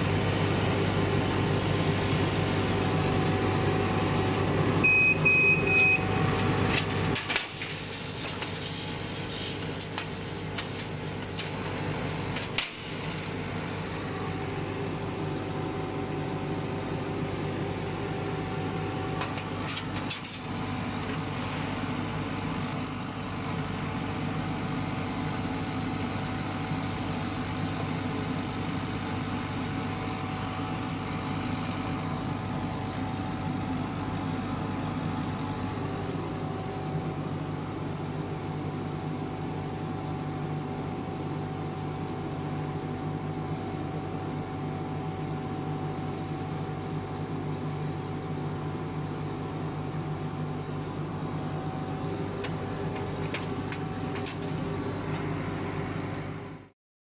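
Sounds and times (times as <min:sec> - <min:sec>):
machine hum with whine: 0:00.0 - 0:56.7.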